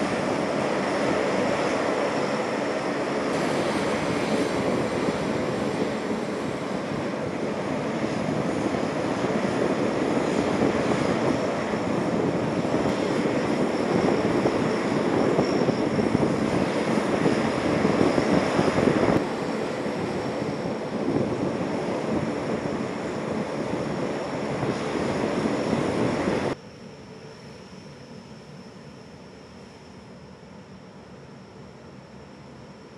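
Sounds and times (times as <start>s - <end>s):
high engine whine: 0.0s - 32.9s
turboprop engines droning: 0.0s - 32.9s.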